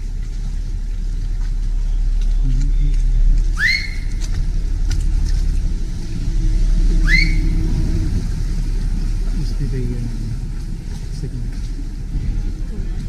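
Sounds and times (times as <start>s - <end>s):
motorboat engine rumbling: 0.0s - 13.0s.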